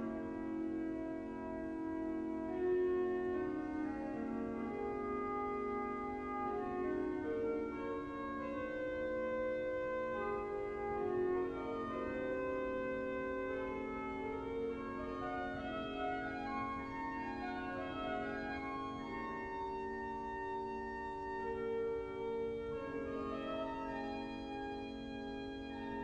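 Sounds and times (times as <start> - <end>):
pipe organ playing: 0.0 - 26.0.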